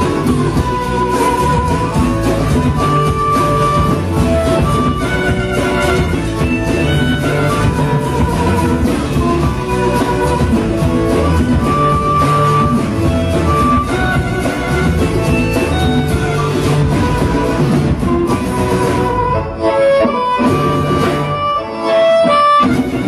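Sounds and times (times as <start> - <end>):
amplified harmonica: 0.0 - 23.0
live band playing: 0.0 - 23.0.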